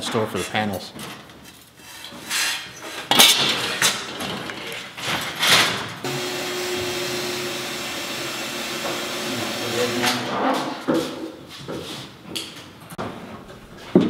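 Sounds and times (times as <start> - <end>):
sheet metal and tools clanking: 0.0 - 14.0.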